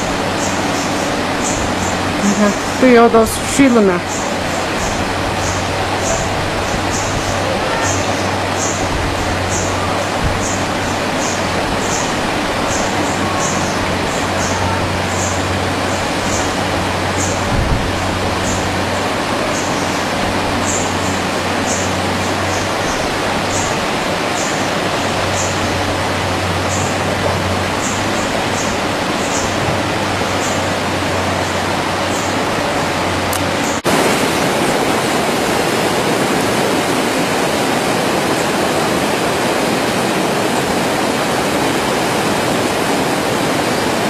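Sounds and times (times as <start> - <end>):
loud rushing noise: 0.0 - 44.0.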